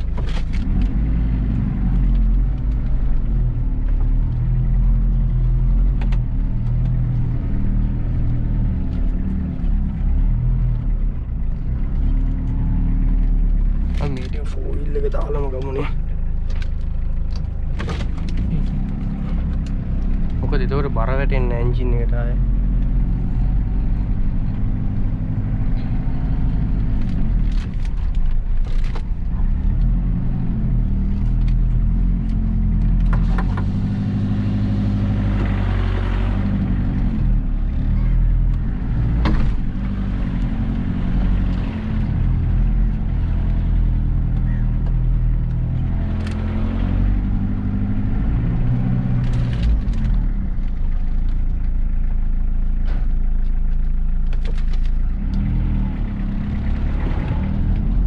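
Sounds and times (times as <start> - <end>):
diesel engine pulling under load: 0.0 - 58.0.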